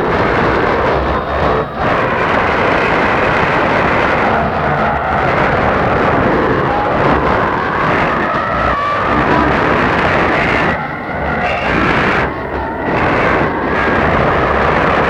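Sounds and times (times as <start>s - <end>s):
whistling tones: 0.2s - 14.8s.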